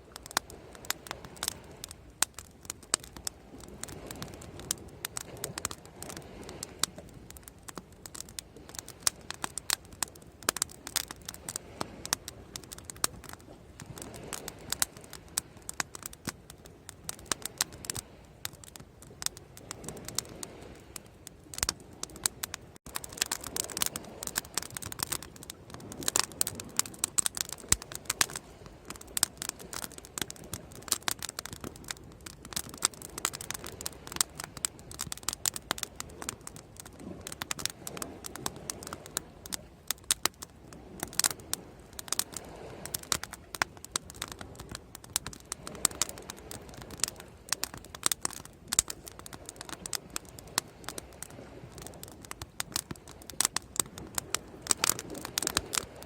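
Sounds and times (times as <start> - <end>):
bonfire crackling: 0.0 - 56.0.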